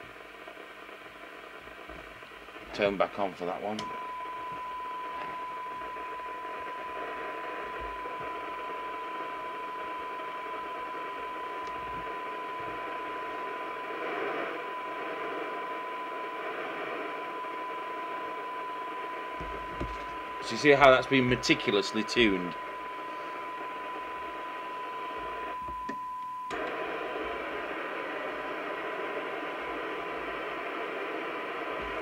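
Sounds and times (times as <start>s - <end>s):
radio hiss: 0.0s - 32.0s
steady test tone: 2.6s - 32.0s.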